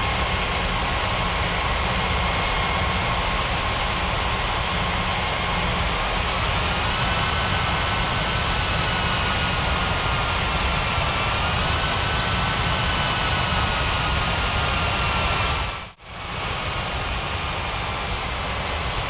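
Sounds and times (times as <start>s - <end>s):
jet engines running at low power: 0.0s - 19.0s.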